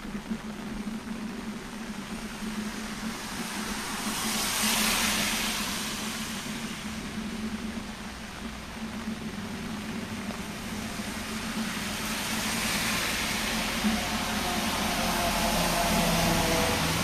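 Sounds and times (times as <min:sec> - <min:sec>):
steady rain: 0:00.0 - 0:17.0
tyres hissing on wet road: 0:00.0 - 0:17.0.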